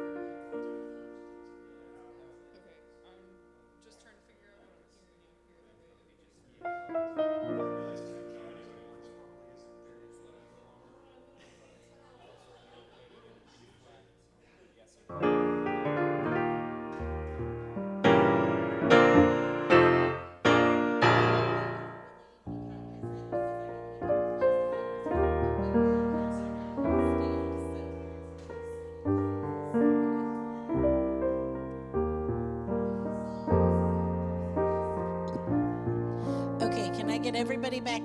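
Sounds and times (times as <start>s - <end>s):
piano playing chords: 0.0s - 11.2s, 15.1s - 38.0s.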